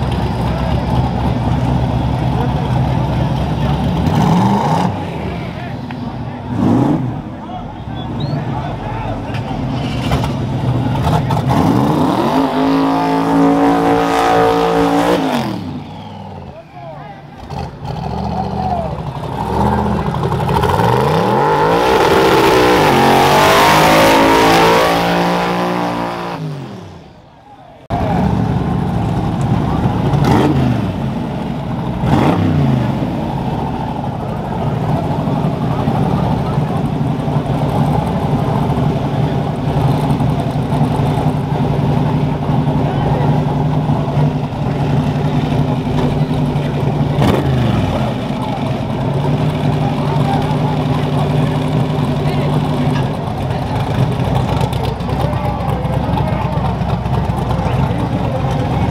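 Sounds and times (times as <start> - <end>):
vehicle engine accelerating: 0.0 - 58.9.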